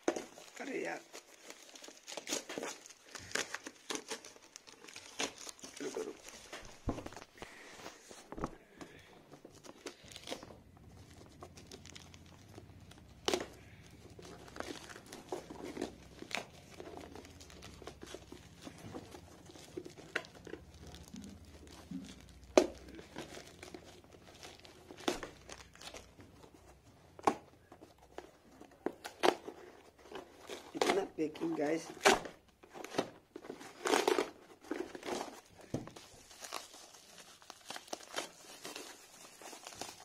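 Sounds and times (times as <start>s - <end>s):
packaging crinkling and tearing: 0.0s - 40.0s.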